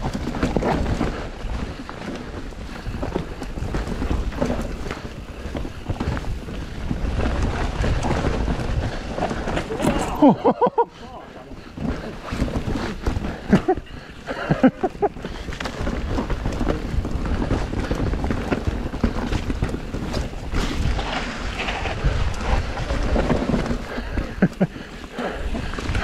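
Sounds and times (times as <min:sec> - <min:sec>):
bike clattering over rocks: 0:00.0 - 0:10.8, 0:11.6 - 0:26.0
bike rumbling on dirt trail: 0:00.0 - 0:26.0
wind buffeting microphone: 0:00.0 - 0:26.0.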